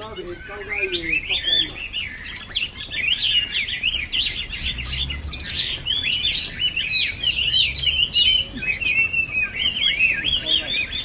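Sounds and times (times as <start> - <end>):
thrush singing whistled notes: 0.0 - 11.0.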